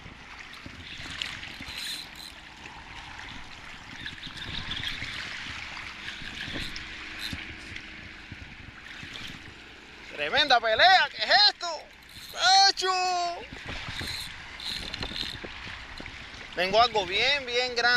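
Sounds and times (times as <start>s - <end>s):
wind rumble on microphone: 0.0s - 10.7s, 12.0s - 17.9s
small waves lapping: 0.0s - 17.9s.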